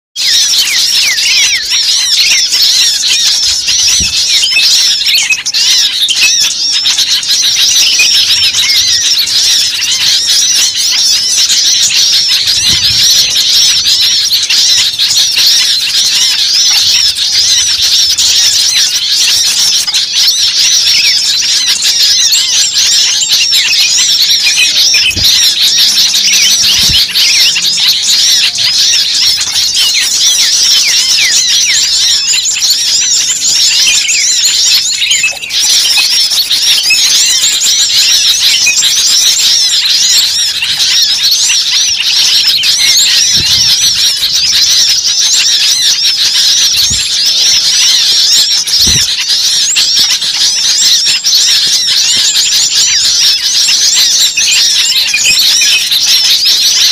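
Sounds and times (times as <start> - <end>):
small birds chirping: 0.2 - 56.9.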